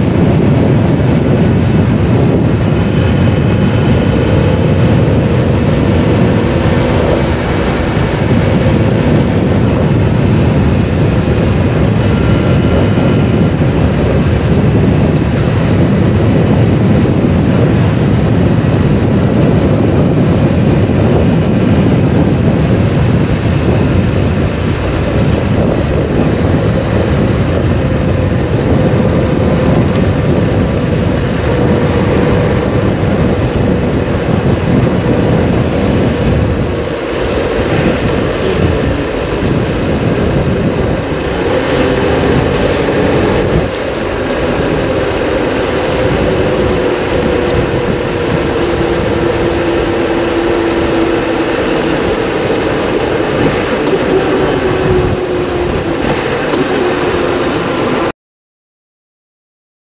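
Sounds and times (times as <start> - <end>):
motorcycle engine running: 0.0 - 57.4
wind and road noise roar: 0.0 - 58.1.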